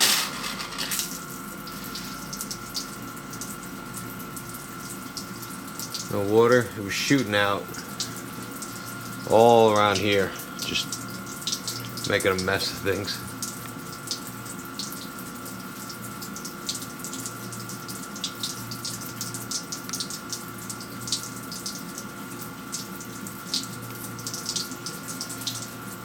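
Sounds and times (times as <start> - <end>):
pump hum and whine: 0.0 - 26.0.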